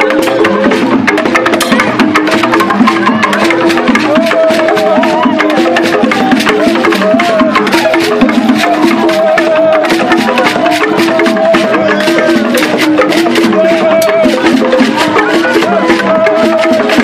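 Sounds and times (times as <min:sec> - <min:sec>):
drums and wooden percussion: 0:00.0 - 0:17.0.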